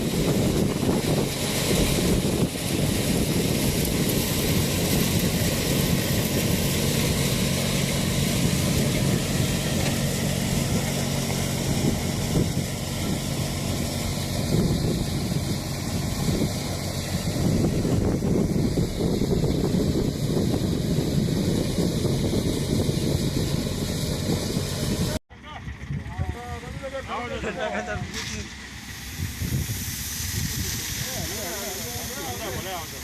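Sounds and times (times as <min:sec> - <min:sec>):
thresher rushing noise: 0:00.0 - 0:33.0
tractor engine running: 0:00.0 - 0:33.0.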